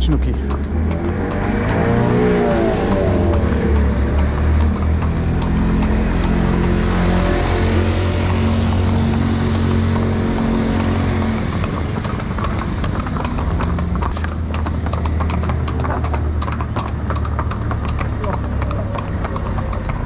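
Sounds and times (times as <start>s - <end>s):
hooves clip-clopping on concrete: 0.0s - 20.0s
vehicle engine humming: 0.0s - 20.0s.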